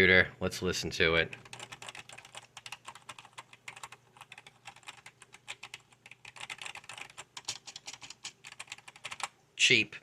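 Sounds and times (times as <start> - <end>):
fast keyboard typing: 1.3 - 9.4.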